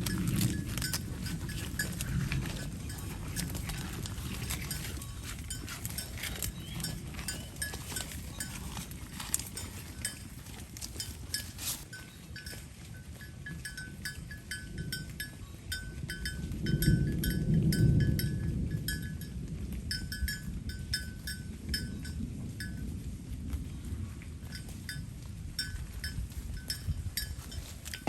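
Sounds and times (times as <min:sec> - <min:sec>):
cow bell clinking: 0:00.0 - 0:22.9, 0:24.4 - 0:28.0.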